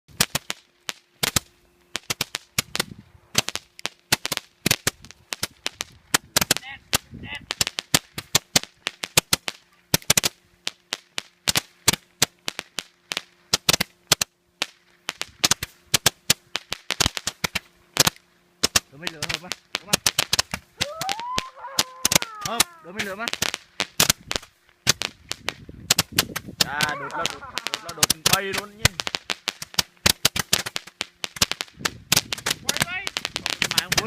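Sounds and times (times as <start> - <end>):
fireworks banging: 0.1 - 34.0.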